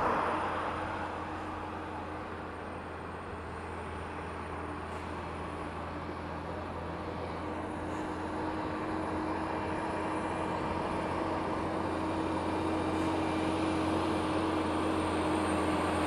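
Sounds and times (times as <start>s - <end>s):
truck diesel engine climbing: 0.0s - 16.0s.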